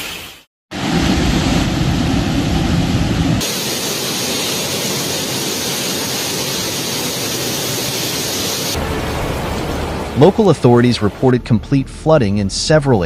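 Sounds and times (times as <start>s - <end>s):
storm rushing noise: 0.7s - 11.6s.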